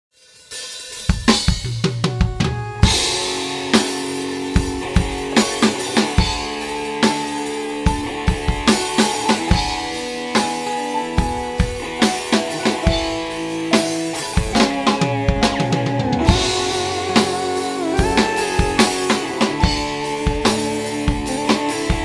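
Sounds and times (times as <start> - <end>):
live band playing: 0.5 - 22.0
drum fill: 0.9 - 22.0.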